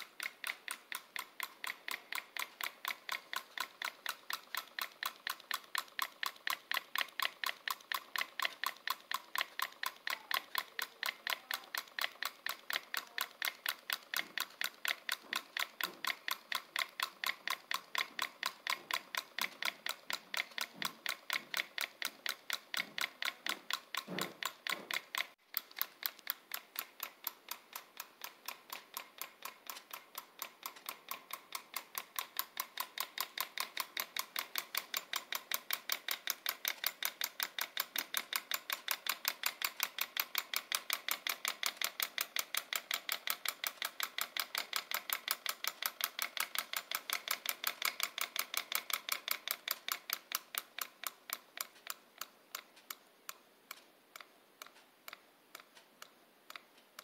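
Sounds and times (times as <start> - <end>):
solenoid engine clicking: 0.0 - 57.0.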